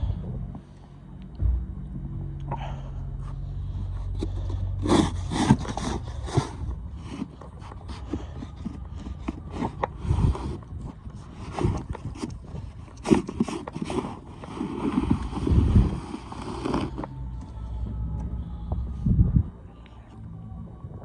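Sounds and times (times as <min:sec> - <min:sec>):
heavy low rumbles: 0:00.0 - 0:13.1, 0:14.4 - 0:21.0.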